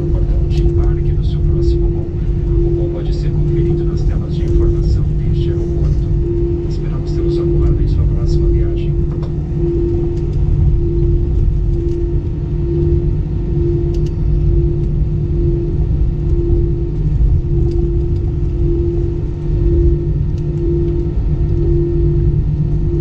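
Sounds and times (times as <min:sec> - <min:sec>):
aircraft cabin rumble: 0:00.0 - 0:23.0
pulsing hum: 0:00.0 - 0:23.0.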